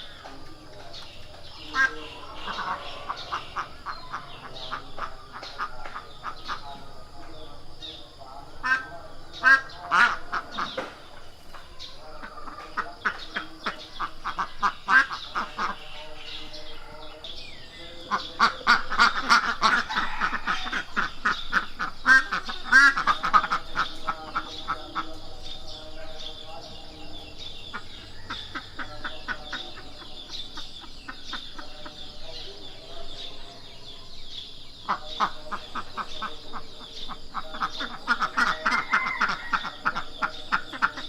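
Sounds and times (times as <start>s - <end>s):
ducks quacking: 0.0s - 41.0s.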